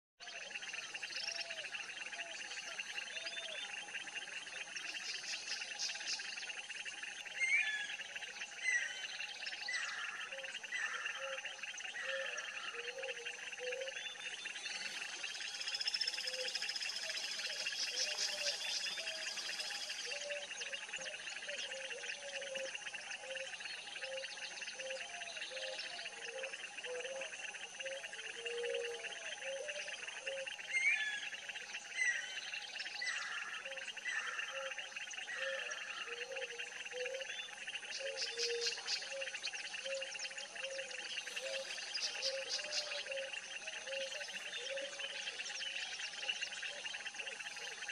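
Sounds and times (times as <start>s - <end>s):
bird chirps: 0.2s - 47.9s
steady insect hum: 0.2s - 47.9s.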